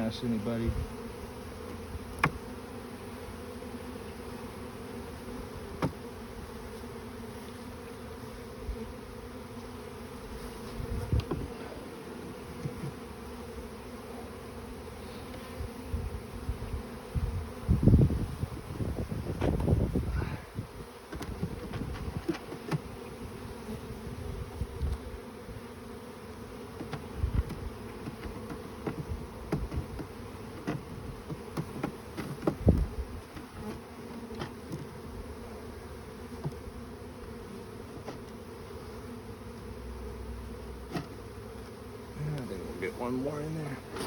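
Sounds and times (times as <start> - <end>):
bees buzzing: 0.0 - 44.0.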